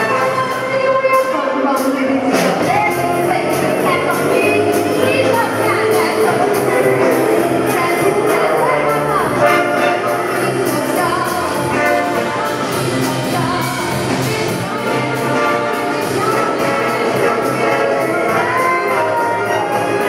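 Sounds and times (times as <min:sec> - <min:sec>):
jazz big band playing: 0:00.0 - 0:20.0
woman singing: 0:00.0 - 0:20.0.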